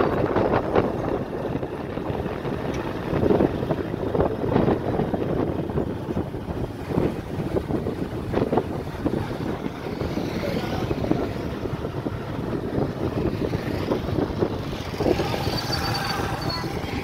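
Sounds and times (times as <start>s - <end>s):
road noise: 0.0s - 17.0s
vehicle engine: 0.0s - 17.0s
wind buffeting microphone: 0.0s - 17.0s.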